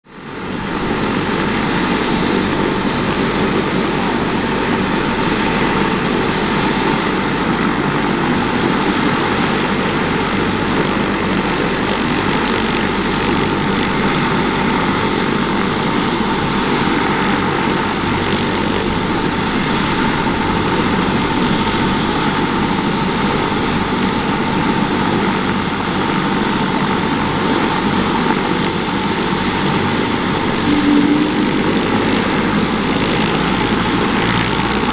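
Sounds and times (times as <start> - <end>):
helicopter running: 0.0 - 34.9
high steady whine: 0.1 - 34.9.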